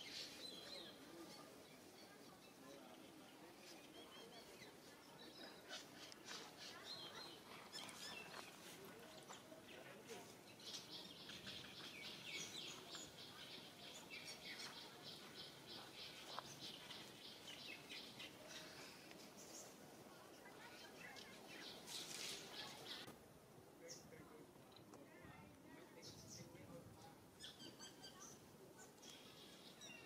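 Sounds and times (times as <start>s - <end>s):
small birds chirping: 0.0s - 23.1s, 23.8s - 30.0s.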